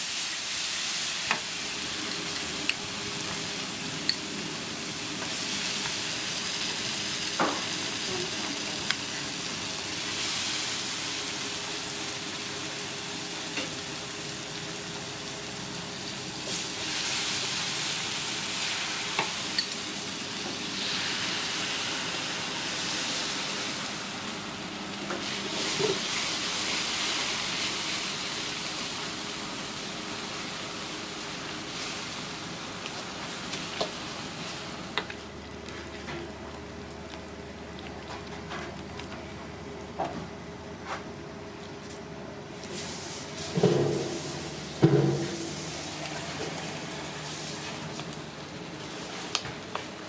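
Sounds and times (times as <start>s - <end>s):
food sizzling in hot oil: 0.0s - 35.0s, 42.6s - 47.9s.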